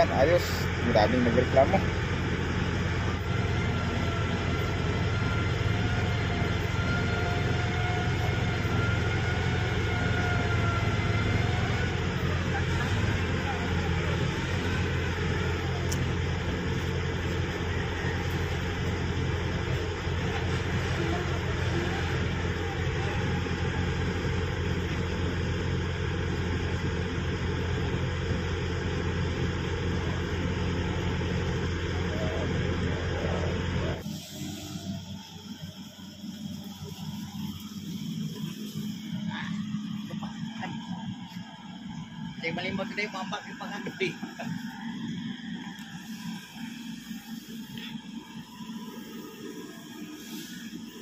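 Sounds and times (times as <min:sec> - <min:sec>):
excavator diesel engine drone: 0:00.0 - 0:51.0
faint steady whine: 0:00.0 - 0:51.0.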